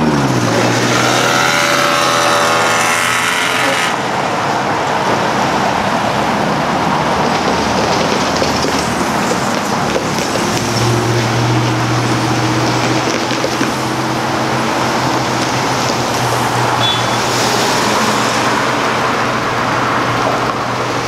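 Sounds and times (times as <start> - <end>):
passing vehicles: 0.0 - 21.0.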